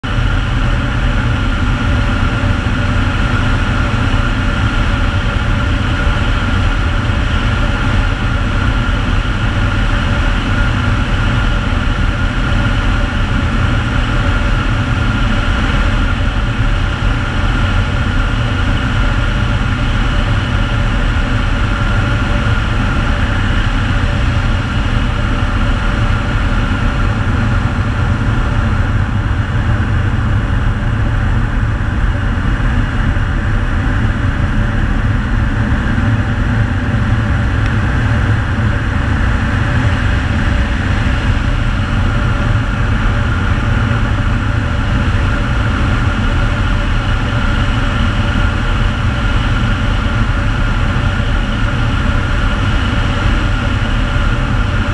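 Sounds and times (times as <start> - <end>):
high turbine whine: 0.0 - 54.9
turboprop engine drone in cockpit: 0.0 - 54.9.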